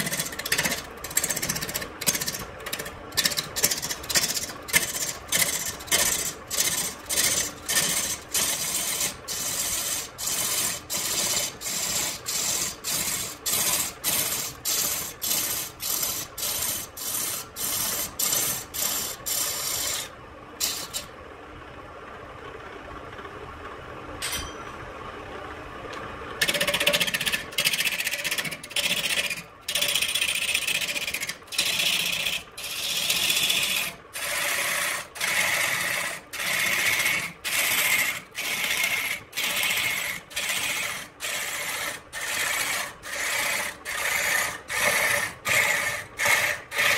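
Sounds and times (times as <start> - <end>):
gouge cutting wood: 0.0 - 20.1, 26.4 - 46.9
wood lathe spinning: 0.0 - 21.1, 26.4 - 46.9.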